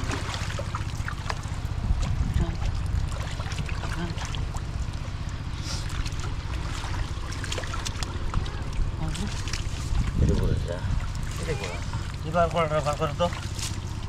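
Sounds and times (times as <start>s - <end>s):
steady low rumble: 0.0s - 14.0s
water trickling and splashing: 0.0s - 14.0s.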